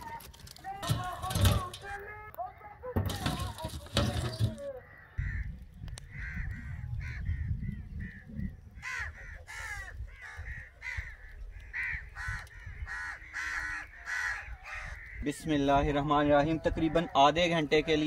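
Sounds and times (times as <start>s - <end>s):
crows cawing: 3.2s - 18.0s.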